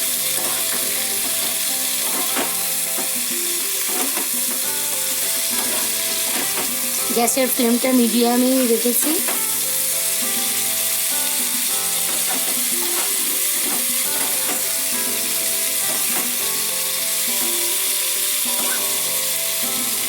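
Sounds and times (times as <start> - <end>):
spatula stirring and scraping: 0.0 - 8.1, 8.7 - 20.0
soft background music: 0.0 - 20.0
vegetables sizzling in oil: 0.0 - 20.0.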